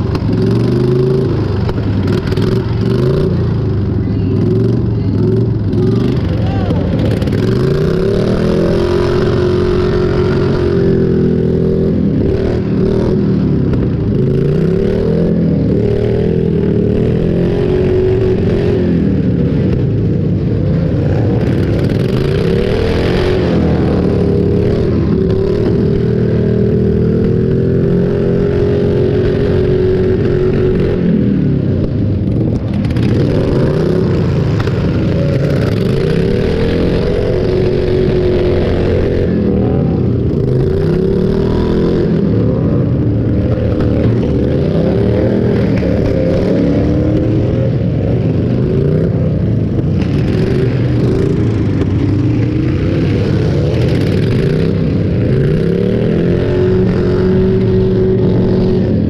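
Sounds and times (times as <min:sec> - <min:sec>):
tractor engines revving: 0:00.0 - 0:59.0.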